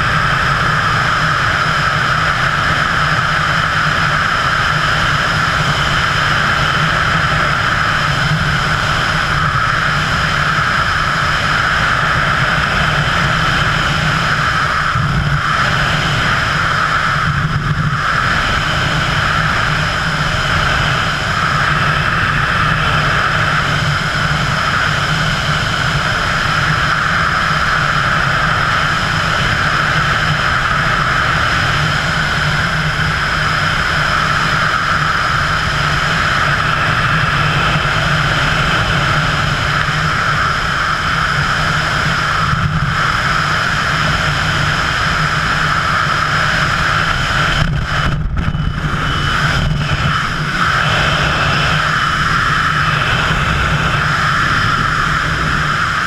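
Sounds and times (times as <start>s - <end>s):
rushing wind noise: 0.0s - 56.0s.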